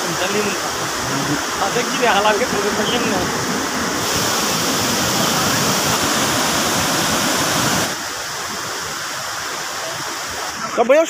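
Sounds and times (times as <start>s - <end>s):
waterfall roaring over rocks: 0.0s - 11.0s.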